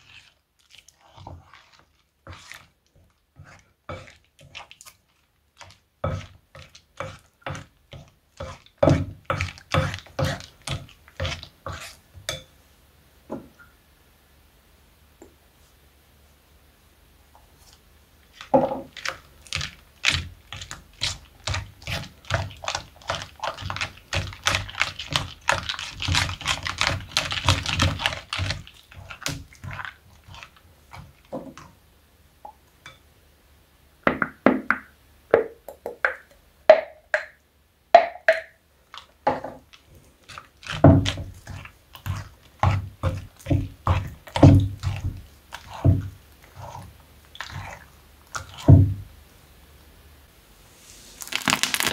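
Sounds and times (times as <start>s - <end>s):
spatula stirring wet slime: 0.0s - 12.6s, 17.4s - 33.0s, 35.8s - 49.3s.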